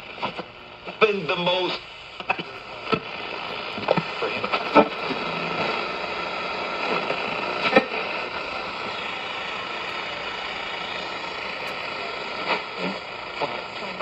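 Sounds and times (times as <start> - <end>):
radio static hiss: 0.0 - 14.0
short crackle: 0.1 - 14.0.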